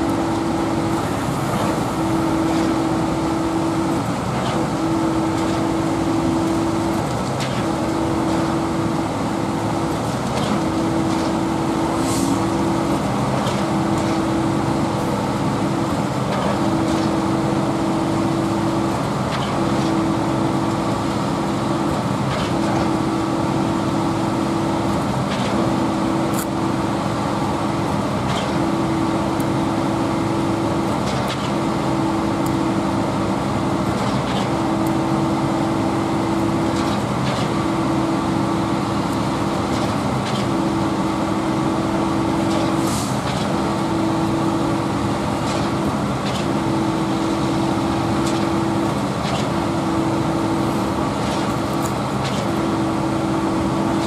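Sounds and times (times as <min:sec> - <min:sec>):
diesel engine droning: 0:00.0 - 0:54.0
pump whine dipping: 0:00.0 - 0:54.0.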